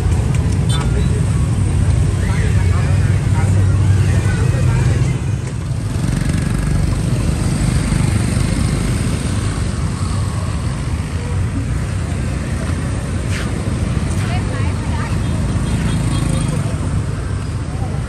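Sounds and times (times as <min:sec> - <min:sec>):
rumble of vehicle engines: 0:00.0 - 0:18.0.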